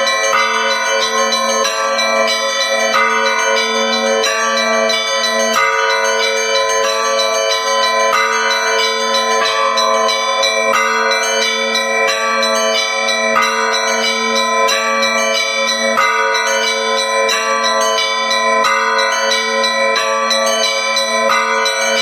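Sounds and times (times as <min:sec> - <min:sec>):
large bell humming: 0:00.0 - 0:22.0
small church bells pealing: 0:00.0 - 0:22.0.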